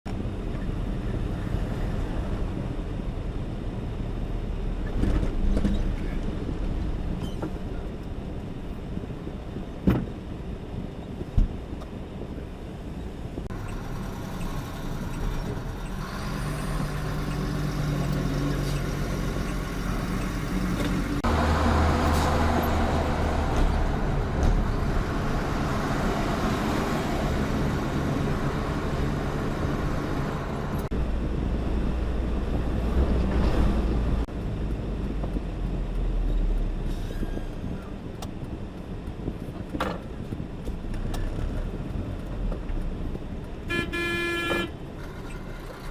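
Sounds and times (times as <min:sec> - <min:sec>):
truck engine and road noise: 0:00.0 - 0:45.9.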